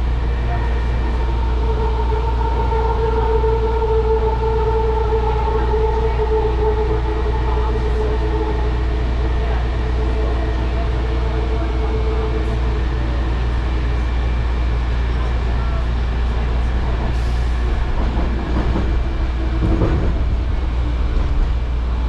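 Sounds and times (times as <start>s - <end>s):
rail car rumbling: 0.0s - 22.0s
steady multi-tone whine: 0.0s - 22.0s.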